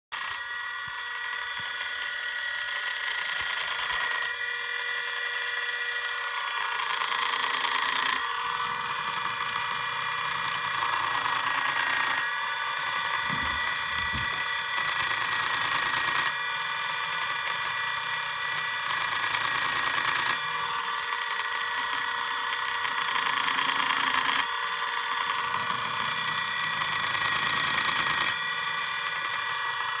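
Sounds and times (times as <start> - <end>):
electric motor whining: 0.2 - 30.0.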